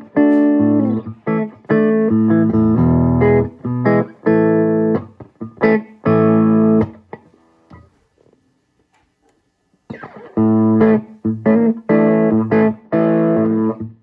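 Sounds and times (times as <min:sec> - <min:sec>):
electric guitar chords: 0:00.0 - 0:08.0, 0:09.9 - 0:14.0.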